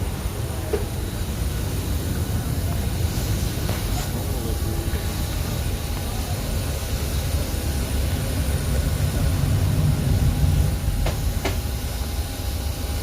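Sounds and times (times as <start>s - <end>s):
low ventilation rumble: 0.0s - 13.0s.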